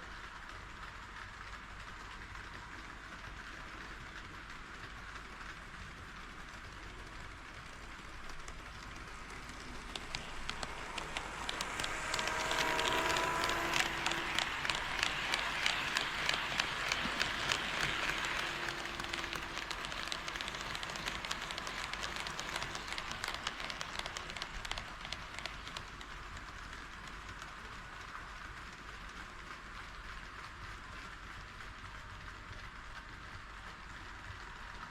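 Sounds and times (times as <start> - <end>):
model train rolling on track: 0.0 - 34.9.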